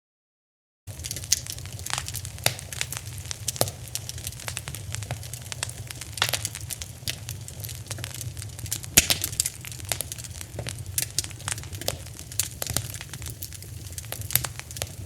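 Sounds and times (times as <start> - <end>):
fire crackling and popping: 0.9 - 15.0
low rumble of flame: 0.9 - 15.0.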